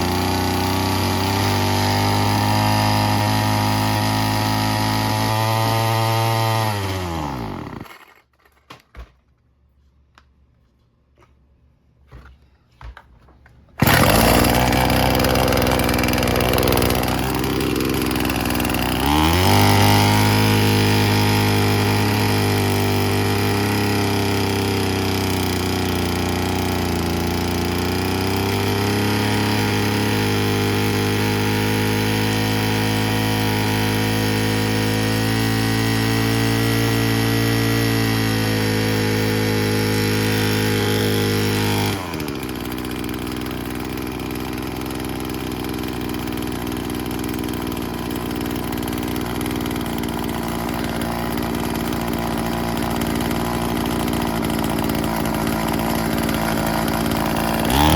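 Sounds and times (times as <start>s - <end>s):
string trimmer engine idling: 0.0s - 8.2s, 13.8s - 57.9s.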